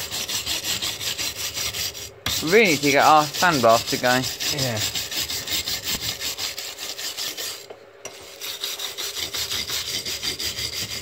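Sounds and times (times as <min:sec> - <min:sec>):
wire brush scrubbing metal: 0:00.0 - 0:11.0.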